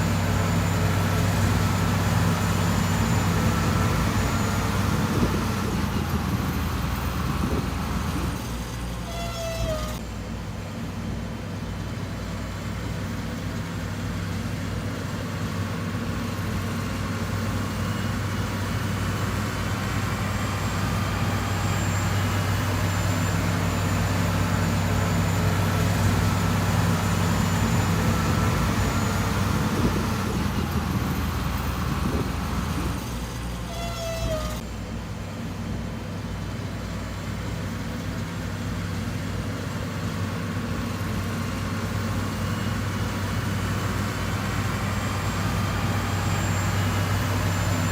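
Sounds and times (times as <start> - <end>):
diesel engine humming: 0.0 - 47.9.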